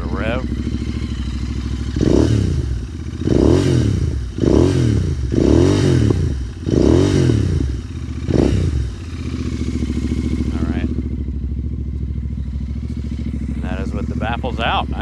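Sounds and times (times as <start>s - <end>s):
motorcycle engine idling: 0.0s - 15.0s
motorcycle engine revving: 0.0s - 15.0s.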